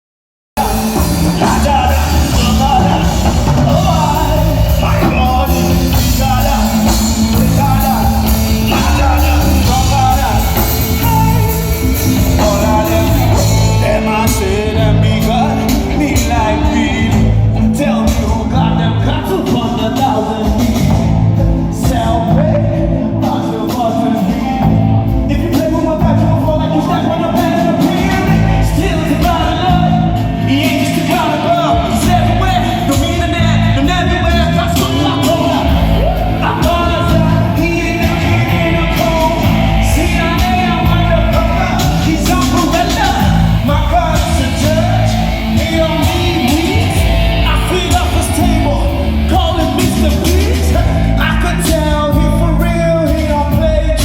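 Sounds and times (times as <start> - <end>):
gospel band playing: 0.6 - 54.0
person singing: 0.6 - 54.0.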